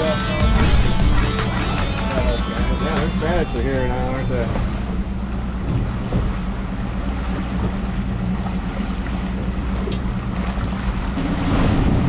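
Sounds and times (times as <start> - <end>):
boat wake rushing: 0.0 - 12.0
outboard motor droning: 0.0 - 12.0
wind: 0.0 - 12.0.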